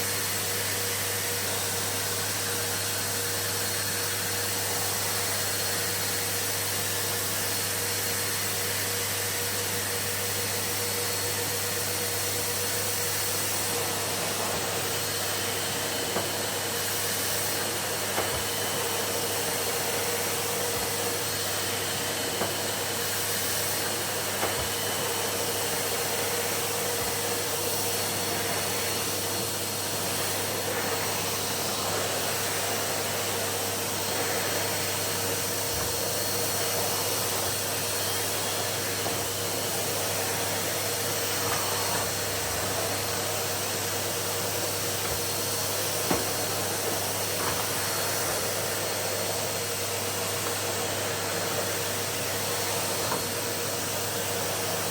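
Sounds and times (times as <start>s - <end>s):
vacuum cleaner humming and whining: 0.0s - 54.9s.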